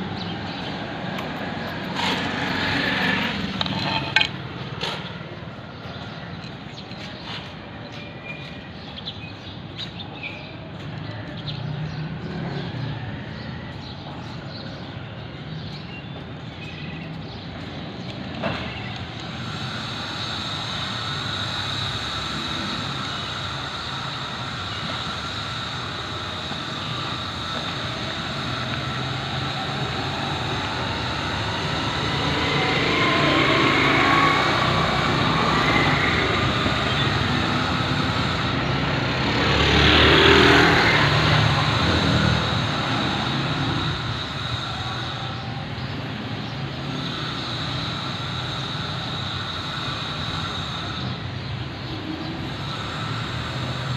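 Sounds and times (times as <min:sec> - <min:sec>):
traffic hum: 0:00.0 - 0:53.9.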